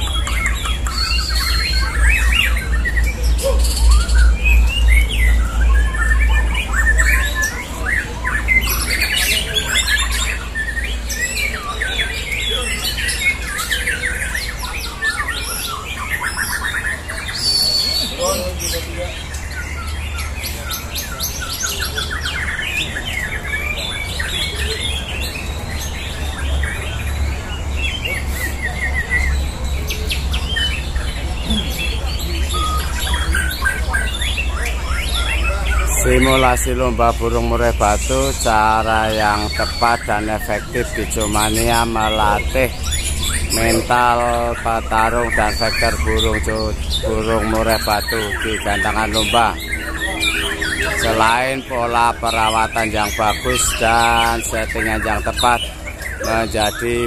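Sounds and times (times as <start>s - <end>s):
birds singing and trilling: 0.0s - 57.0s.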